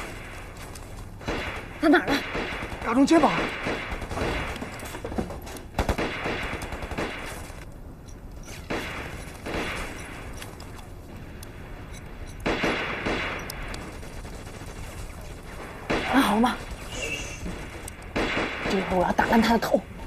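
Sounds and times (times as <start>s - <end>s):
rifle and machine-gun fire: 0.0s - 7.6s, 8.7s - 10.4s, 12.4s - 19.6s
continuous battle din: 0.0s - 7.8s, 8.4s - 20.0s.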